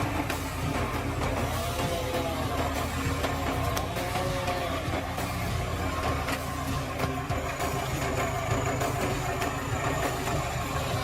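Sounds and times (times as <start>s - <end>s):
heavy engine running under load: 0.0s - 11.0s.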